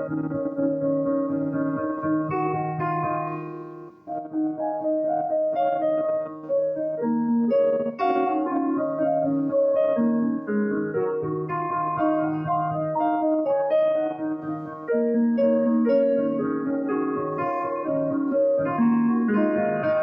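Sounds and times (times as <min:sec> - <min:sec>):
piano-like keyboard music: 0:00.0 - 0:20.0.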